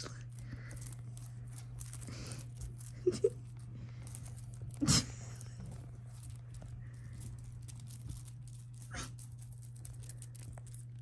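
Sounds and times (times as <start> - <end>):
kittens scratching on fabric: 0.0 - 11.0
steady low hum: 0.0 - 11.0.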